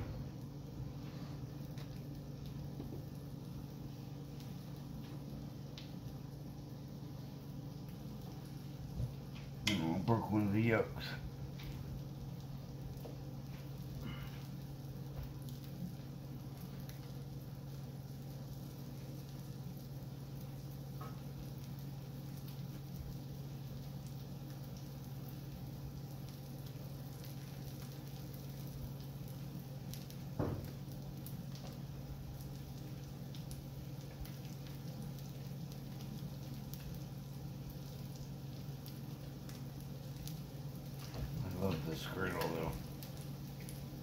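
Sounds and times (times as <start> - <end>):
eggs sizzling and popping: 0.0 - 44.0
steady low hum: 0.0 - 44.0.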